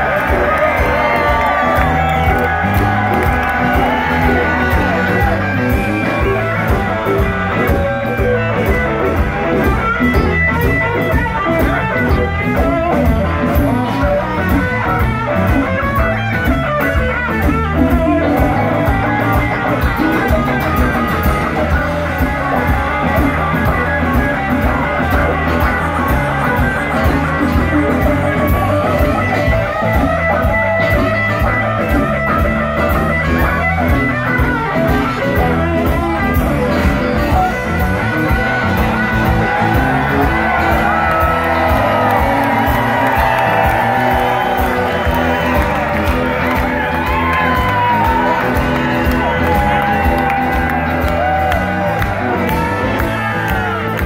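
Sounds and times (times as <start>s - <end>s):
drum kit beat: 0.0s - 54.0s
electric guitar lead lines: 0.0s - 54.0s
heavy bass: 0.0s - 54.0s.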